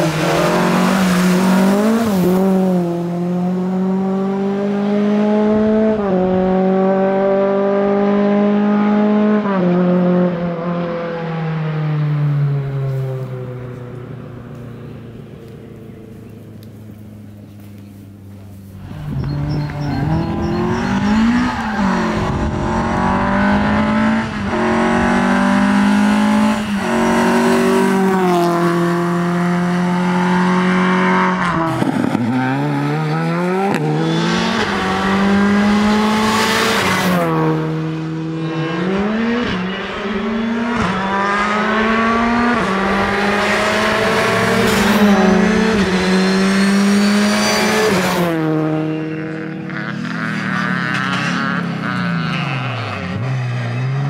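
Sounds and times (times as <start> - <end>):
rally car engine revving: 0.0 - 12.0, 18.8 - 54.0.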